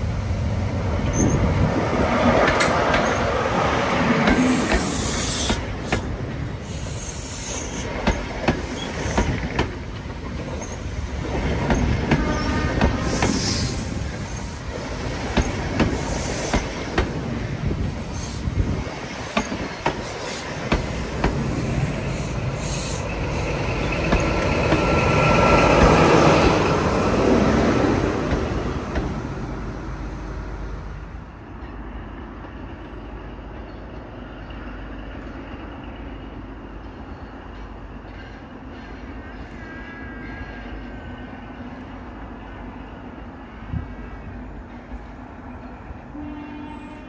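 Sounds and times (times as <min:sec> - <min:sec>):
train running by: 0:00.0 - 0:47.0.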